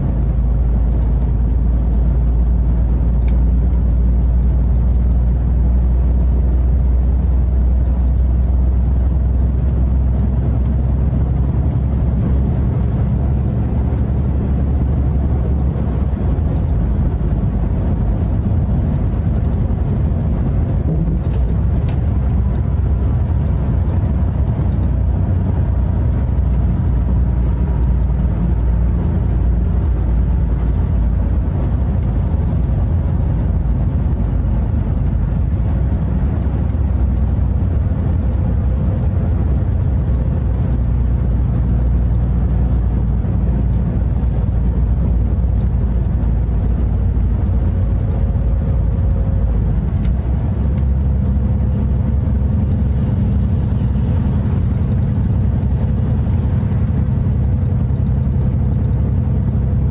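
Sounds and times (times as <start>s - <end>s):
road noise: 0.0s - 59.9s
truck diesel engine drone: 0.0s - 59.9s.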